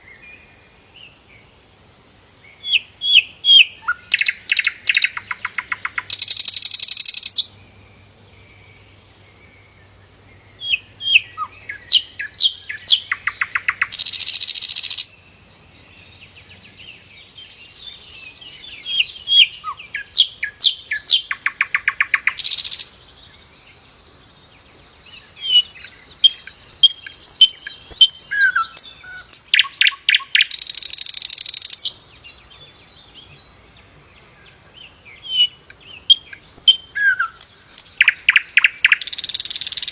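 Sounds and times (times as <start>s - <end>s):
bird chirps and twittering: 2.5s - 39.9s.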